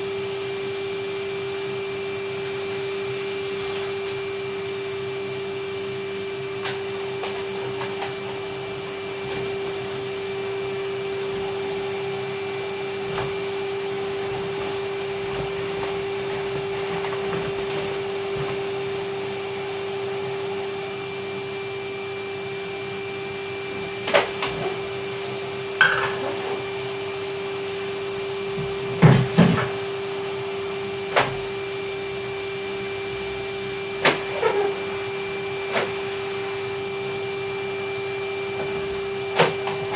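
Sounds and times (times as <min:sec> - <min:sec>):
vacuum cleaner humming: 0:00.0 - 0:39.9.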